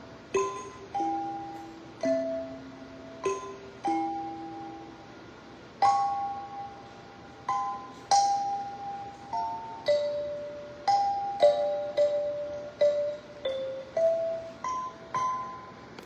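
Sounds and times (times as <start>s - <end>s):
kalimba plucked notes: 0.3s - 5.0s, 7.5s - 15.8s.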